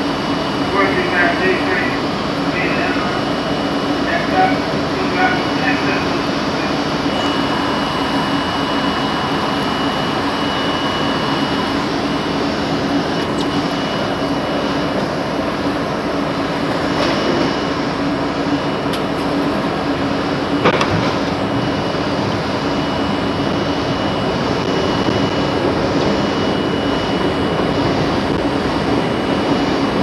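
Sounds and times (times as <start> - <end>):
subway car electrical hum: 0.0 - 30.0.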